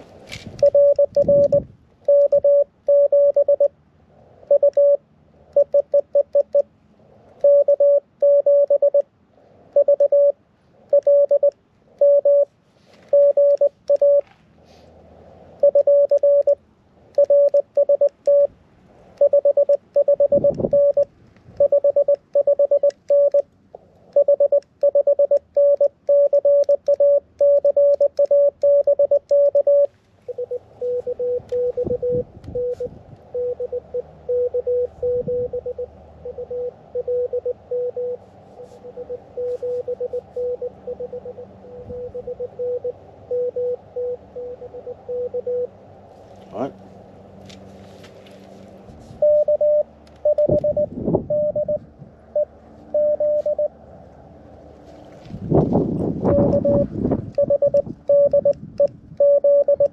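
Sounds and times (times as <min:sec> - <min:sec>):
morse code beeping tone: 0:00.6 - 0:03.8, 0:04.5 - 0:06.7, 0:07.4 - 0:09.1, 0:09.7 - 0:12.5, 0:13.1 - 0:14.3, 0:15.6 - 0:18.6, 0:19.2 - 0:23.5, 0:24.1 - 0:45.7, 0:49.2 - 0:53.7, 0:56.3 - 0:59.9.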